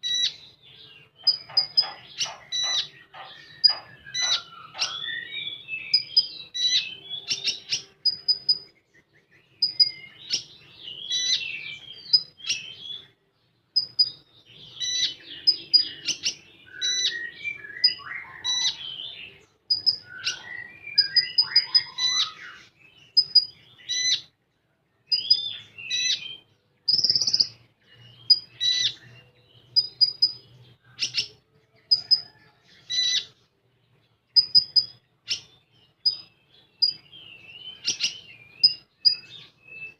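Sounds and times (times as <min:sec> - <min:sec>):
songbird singing high pips and trills: 0:00.0 - 0:13.2, 0:13.8 - 0:24.4, 0:25.0 - 0:33.4, 0:34.2 - 0:39.9.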